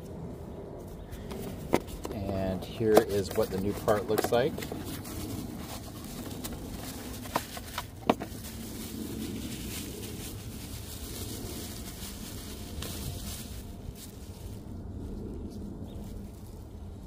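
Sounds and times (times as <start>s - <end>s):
bubble wrap crinkling: 3.1s - 17.0s.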